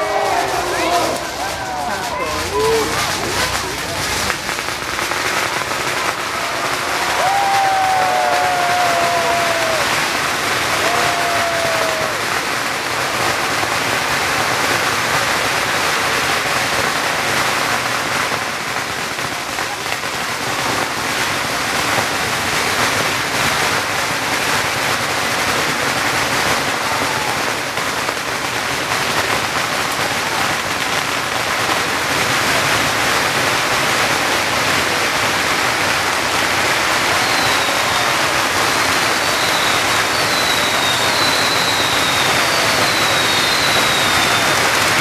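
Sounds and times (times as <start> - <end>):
firecrackers popping: 0.0 - 45.0.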